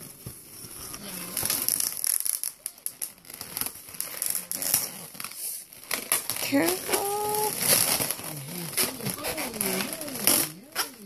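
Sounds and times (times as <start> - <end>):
balloon rubbing and crinkling: 0.0 - 11.0.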